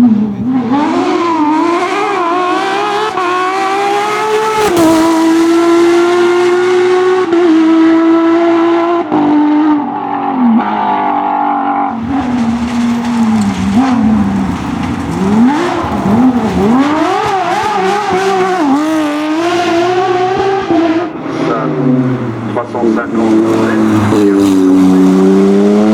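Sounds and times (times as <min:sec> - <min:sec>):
racing car engine at high revs: 0:00.0 - 0:25.9.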